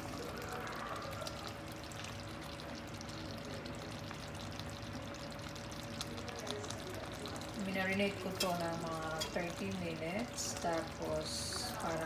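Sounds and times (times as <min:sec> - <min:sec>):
faint hum: 0:00.0 - 0:12.0
sauce simmering and bubbling: 0:00.0 - 0:12.0.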